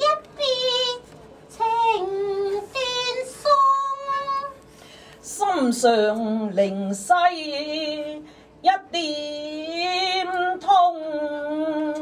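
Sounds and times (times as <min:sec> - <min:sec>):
woman singing opera: 0:00.0 - 0:04.6, 0:05.2 - 0:12.0.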